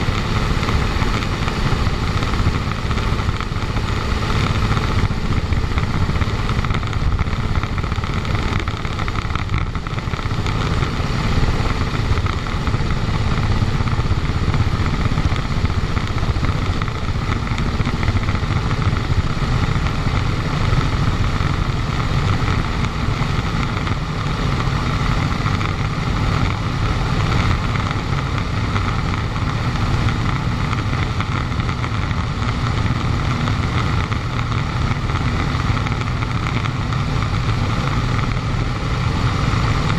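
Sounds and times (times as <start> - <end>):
airplane piston engine running: 0.0 - 39.9.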